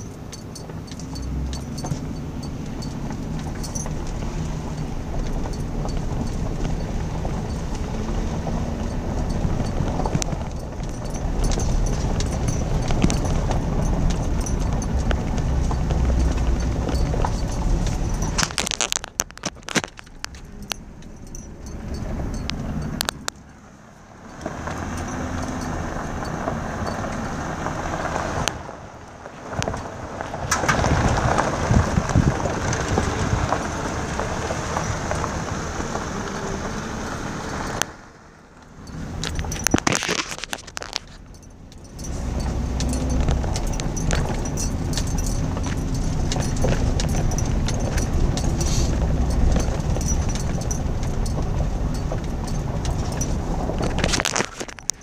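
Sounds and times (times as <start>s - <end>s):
cab rattles: 0.0s - 55.0s
tyres crunching on gravel: 0.0s - 55.0s
vehicle engine: 0.0s - 55.0s.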